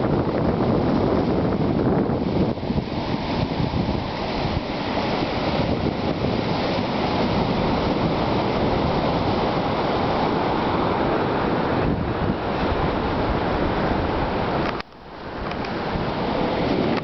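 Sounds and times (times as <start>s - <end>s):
water washing up sand: 0.0s - 17.0s
waves breaking on rocks: 0.0s - 17.0s.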